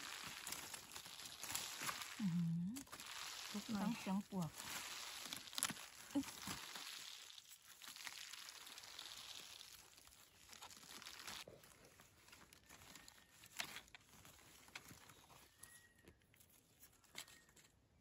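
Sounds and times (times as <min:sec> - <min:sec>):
dry leaves rustling: 0:00.0 - 0:17.7.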